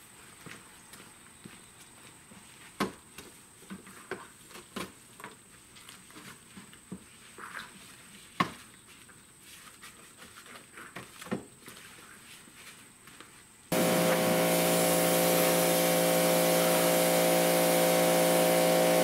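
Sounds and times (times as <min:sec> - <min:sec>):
scrub brush scuffing plastic: 0:02.4 - 0:19.0.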